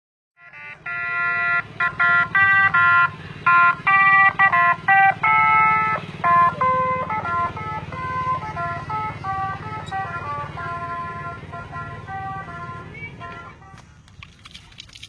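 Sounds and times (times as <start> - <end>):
electronic ice-cream jingle: 0.4 - 12.9
small motorbike engine running: 0.5 - 15.0.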